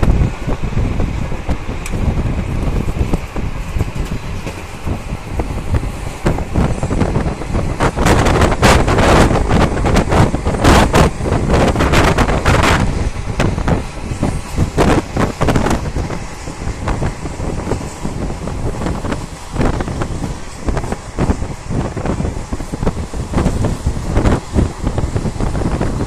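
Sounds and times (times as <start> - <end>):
freight train passing: 0.0 - 26.0
train wheels clattering over rail joints: 1.3 - 26.0.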